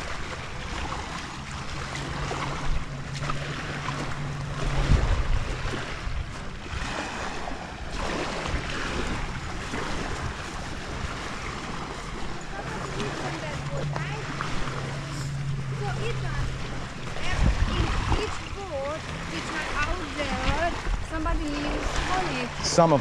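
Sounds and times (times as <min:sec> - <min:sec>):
small waves lapping: 0:00.0 - 0:23.0
wind buffeting microphone: 0:00.0 - 0:23.0.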